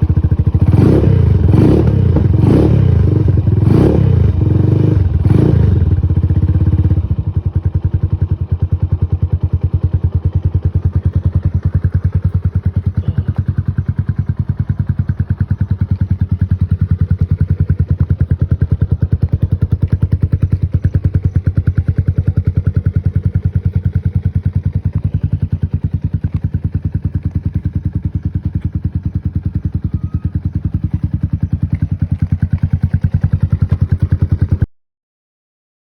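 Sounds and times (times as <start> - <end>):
motorcycle engine revving and idling: 0.0 - 34.7.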